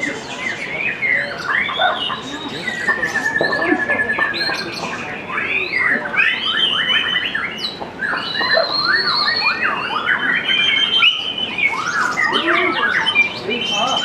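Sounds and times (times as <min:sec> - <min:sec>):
bird singing whistled song: 0:00.0 - 0:14.0.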